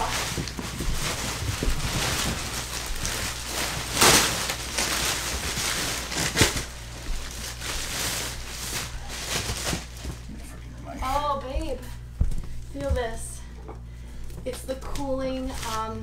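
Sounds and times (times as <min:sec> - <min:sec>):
plastic wrapping crinkling: 0:00.0 - 0:11.8, 0:14.9 - 0:16.0.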